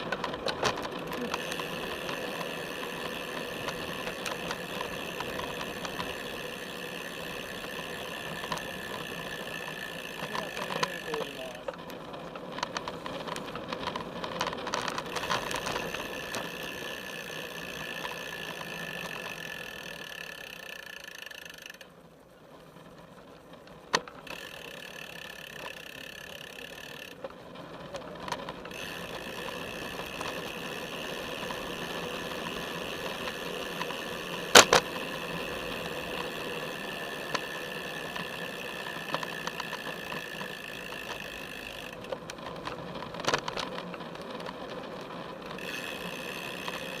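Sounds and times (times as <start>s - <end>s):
bicycle rolling and drivetrain rattle: 0.0s - 47.0s.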